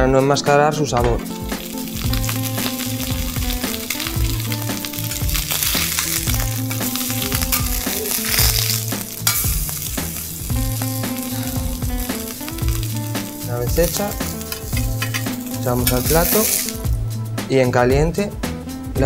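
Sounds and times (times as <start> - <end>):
background music: 0.0 - 19.0
pork sizzling on a griddle: 1.3 - 17.1.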